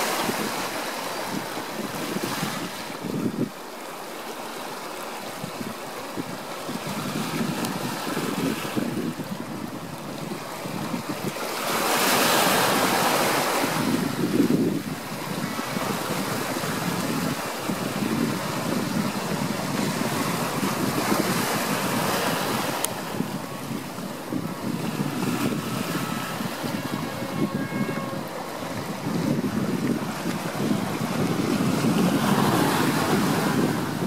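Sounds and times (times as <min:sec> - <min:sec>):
ocean waves washing in: 0:00.0 - 0:34.0.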